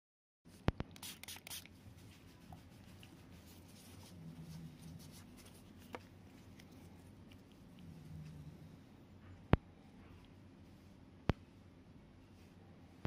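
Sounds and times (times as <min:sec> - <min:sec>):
faint soft rustles: 0:01.8 - 0:13.0.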